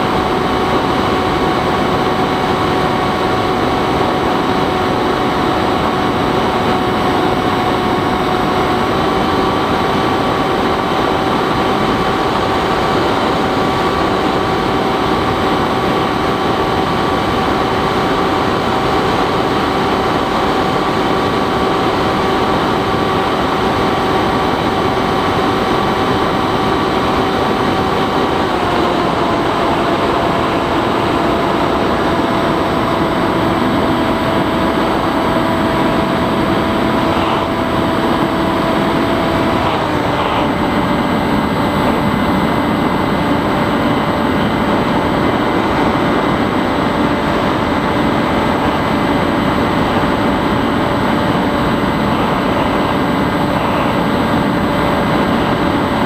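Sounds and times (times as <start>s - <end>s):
electric motor and propeller whining: 0.0s - 56.0s.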